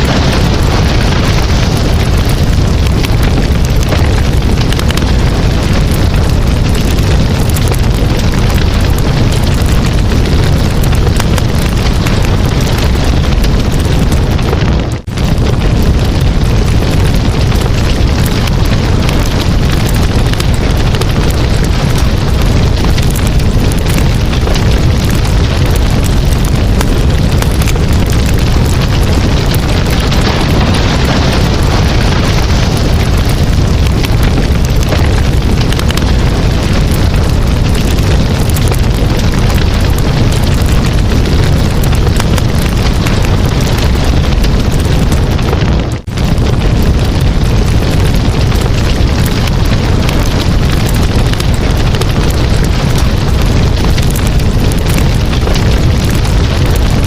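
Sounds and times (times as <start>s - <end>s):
campfire crackling: 0.0s - 57.0s
steady rushing rumble: 0.0s - 57.0s.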